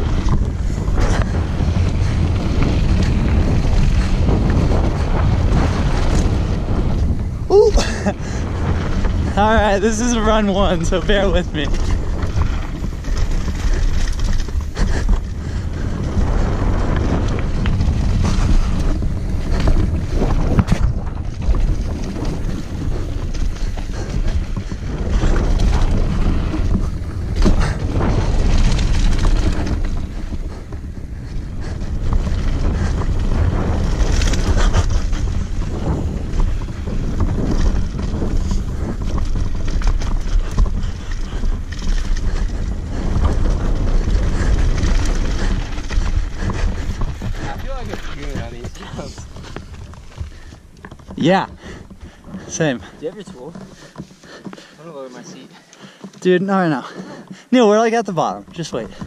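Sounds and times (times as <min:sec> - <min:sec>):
bike rattling over bumps: 0:00.0 - 0:59.0
wind buffeting microphone: 0:00.0 - 0:59.0
tyres crunching over dirt and gravel: 0:07.9 - 0:59.0.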